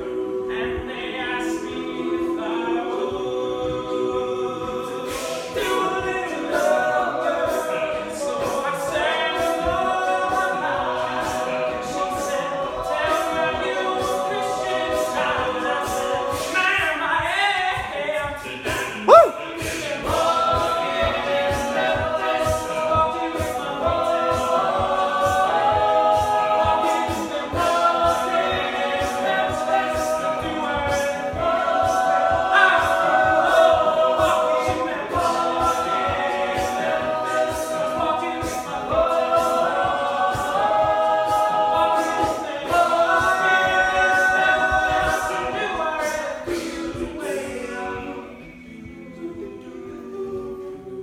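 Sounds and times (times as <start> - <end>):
male group singing in harmony: 0.0 - 51.0
ticking beat: 0.1 - 50.8.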